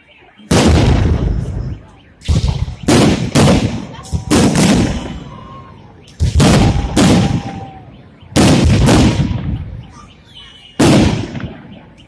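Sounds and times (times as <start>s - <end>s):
fireworks bursting: 0.4s - 10.0s, 10.8s - 12.0s.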